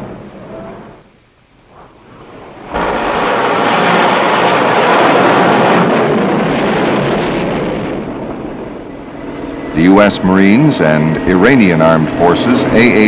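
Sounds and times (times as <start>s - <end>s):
jet aircraft engine noise: 1.7s - 13.0s.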